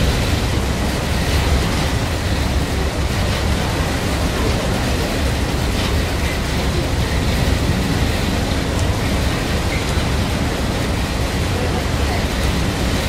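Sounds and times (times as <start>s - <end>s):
boat rumbling through wind and water: 0.0s - 13.0s.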